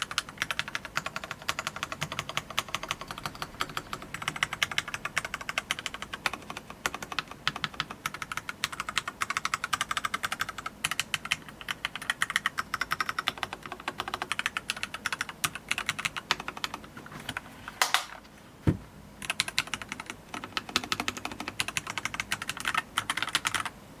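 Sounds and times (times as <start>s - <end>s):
fast mechanical keyboard typing: 0.0s - 17.4s, 19.2s - 23.7s.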